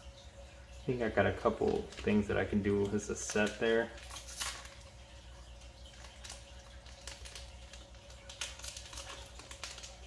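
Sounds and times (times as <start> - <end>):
foil pack rustling: 1.4 - 10.0.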